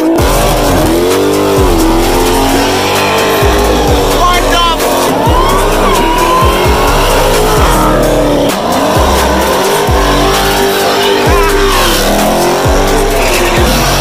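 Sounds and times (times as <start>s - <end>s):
car engine revving hard: 0.0s - 14.0s
tires squealing: 0.0s - 14.0s.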